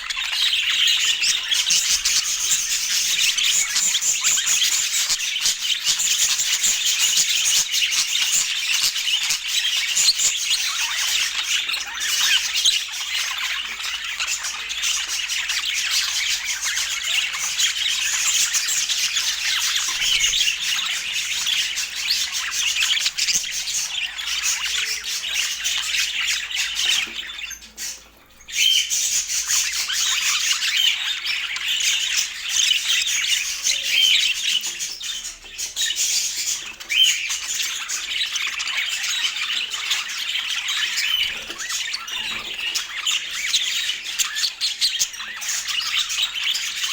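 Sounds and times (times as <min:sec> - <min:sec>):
budgerigars chattering and squawking: 0:00.0 - 0:46.9.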